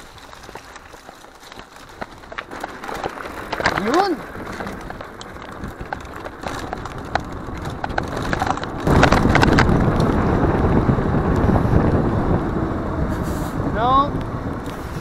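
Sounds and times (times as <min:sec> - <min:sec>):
bike clicks and rattles: 0:00.0 - 0:12.4, 0:13.8 - 0:15.0
wind buffeting microphone: 0:00.0 - 0:15.0.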